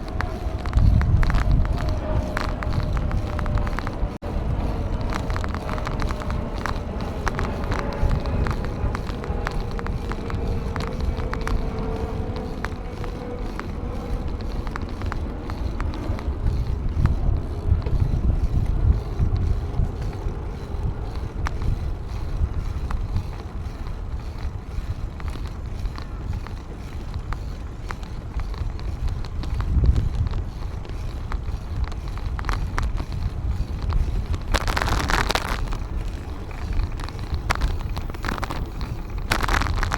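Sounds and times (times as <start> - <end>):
small clicks and rattles: 0.0 - 39.9
wind buffeting microphone: 0.0 - 39.9.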